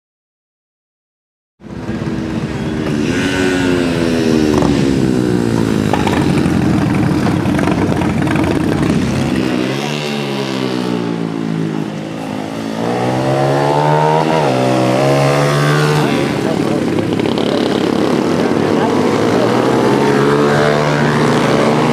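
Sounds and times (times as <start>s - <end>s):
small motorbike engine revving: 1.7s - 21.9s.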